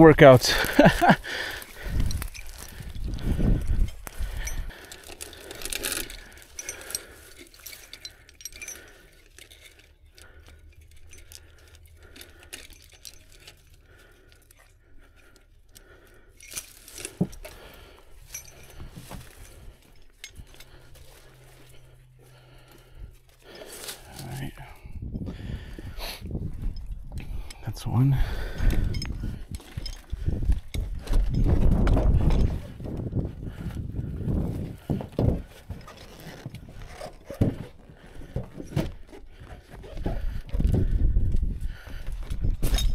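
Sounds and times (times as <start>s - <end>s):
metal rigging clinking: 0.2s - 42.9s.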